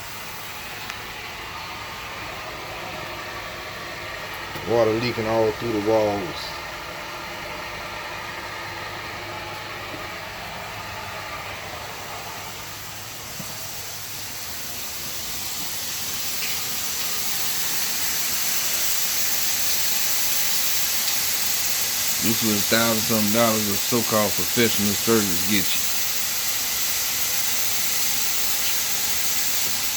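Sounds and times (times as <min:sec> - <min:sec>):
water spraying from burst hose: 0:00.0 - 0:29.9.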